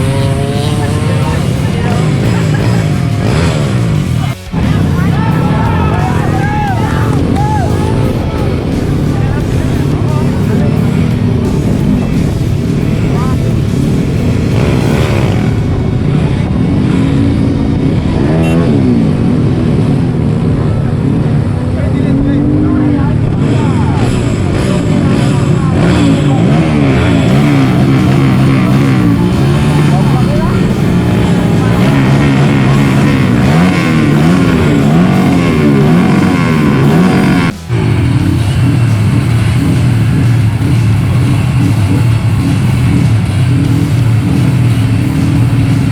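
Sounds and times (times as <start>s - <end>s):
rock music with guitar: 0.0s - 21.4s, 23.4s - 45.9s
motorcycle engines revving: 0.0s - 45.9s.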